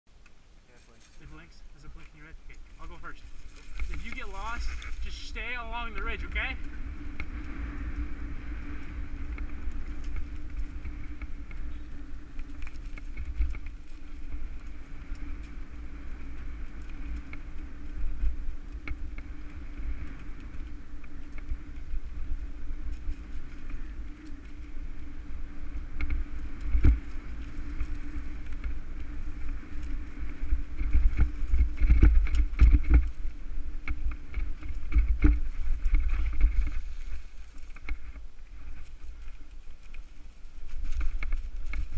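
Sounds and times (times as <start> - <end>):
wind and tyres rumbling: 0.1 - 41.9
bike rattling over bumps: 2.0 - 41.9.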